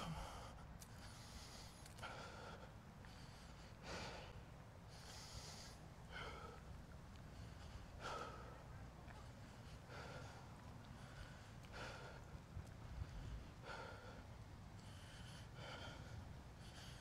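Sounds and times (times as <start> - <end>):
man breathing heavily: 0.0 - 17.0.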